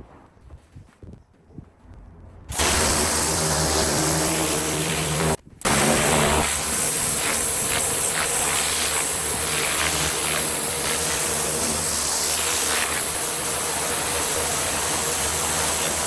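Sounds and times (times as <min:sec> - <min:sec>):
loud hiss of water spray: 0:02.5 - 0:16.0
pressure washer motor humming: 0:02.5 - 0:16.0.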